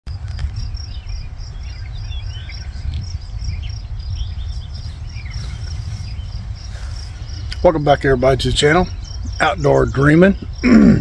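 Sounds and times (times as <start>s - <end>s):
birds chirping: 0.1s - 11.0s
insect chirping: 0.1s - 11.0s.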